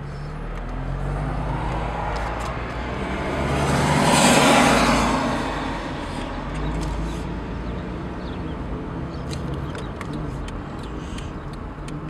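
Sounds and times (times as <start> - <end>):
passing vehicle tyre noise: 0.0 - 11.4
car engine and road hum: 0.0 - 12.0.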